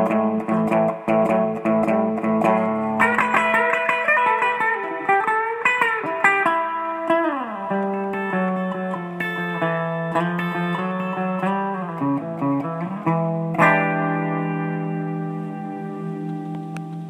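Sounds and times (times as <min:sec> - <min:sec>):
guitar chord ringing: 0:00.0 - 0:17.0
plucked guitar with pitch bends: 0:00.0 - 0:17.0.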